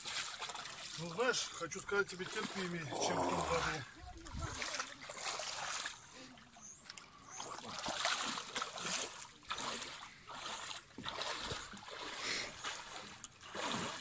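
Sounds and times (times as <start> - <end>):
shallow water splashing: 0.0 - 14.0.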